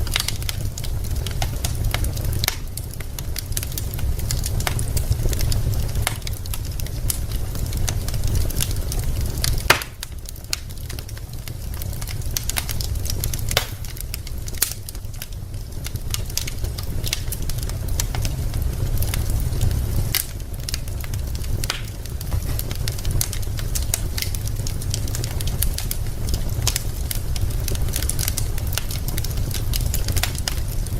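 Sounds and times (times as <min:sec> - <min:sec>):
logs crackling and popping: 0:00.0 - 0:30.9
low rumble of flames: 0:00.0 - 0:30.9.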